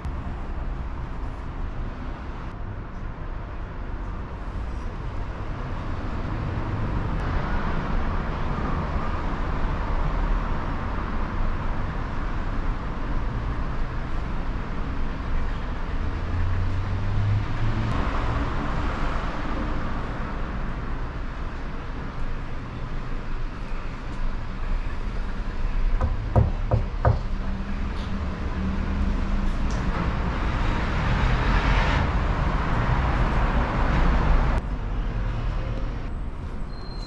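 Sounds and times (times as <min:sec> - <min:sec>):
passing road traffic: 0:00.0 - 0:37.0.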